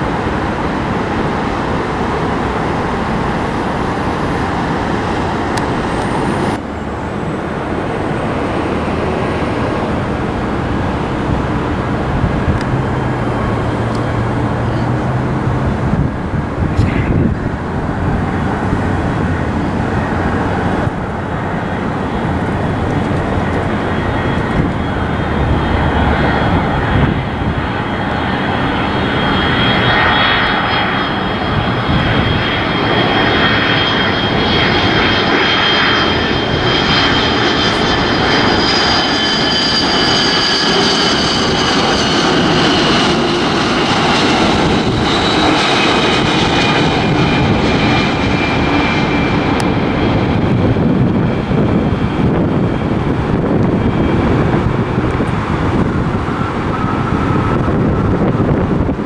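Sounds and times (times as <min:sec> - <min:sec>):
high jet engine whine: 0:00.0 - 0:59.0
jet airliner engine noise: 0:00.0 - 0:59.0.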